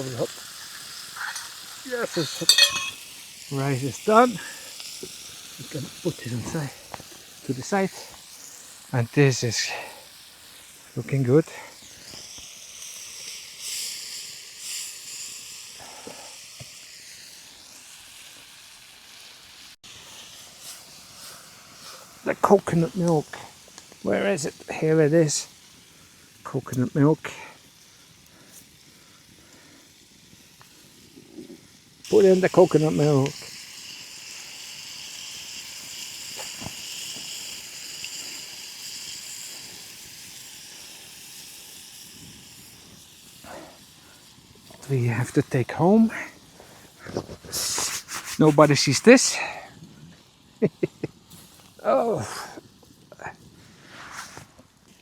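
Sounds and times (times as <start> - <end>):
chicken sizzling in a pan: 0.0 - 55.0.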